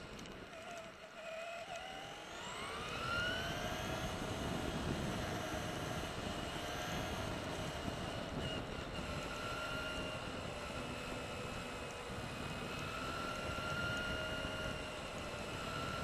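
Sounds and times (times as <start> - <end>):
electric motor whining: 0.0 - 16.0
tyres rumbling on asphalt: 0.0 - 16.0.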